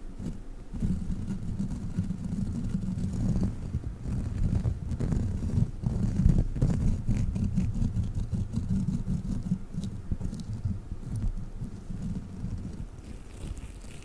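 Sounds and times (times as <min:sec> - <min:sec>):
rubber toy rubbing microphone: 0:00.0 - 0:14.0.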